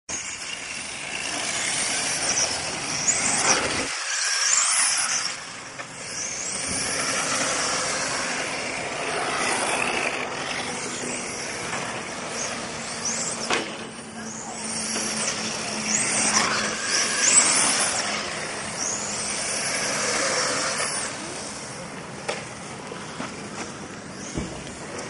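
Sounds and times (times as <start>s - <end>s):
rc car motors whining: 0.1s - 25.0s.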